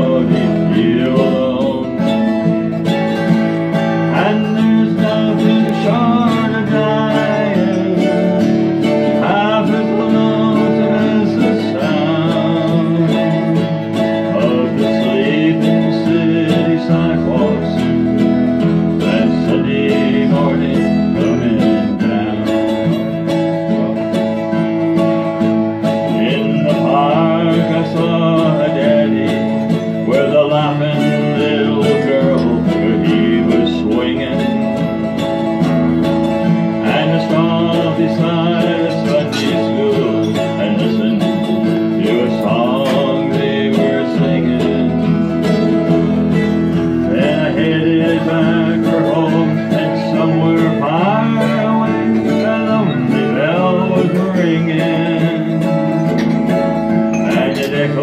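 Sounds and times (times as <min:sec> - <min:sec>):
acoustic guitar country tune: 0:00.0 - 0:58.0
sliding melodic line: 0:00.1 - 0:58.0.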